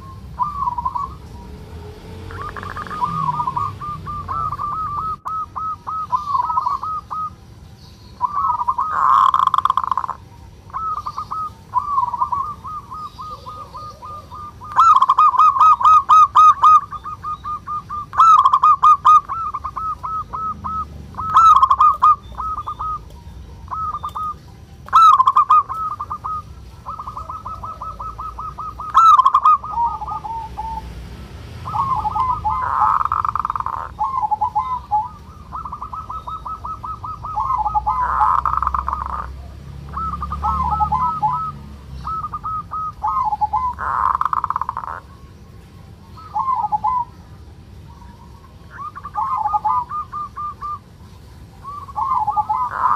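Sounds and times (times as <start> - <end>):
dove rattling call: 0.0 - 52.9.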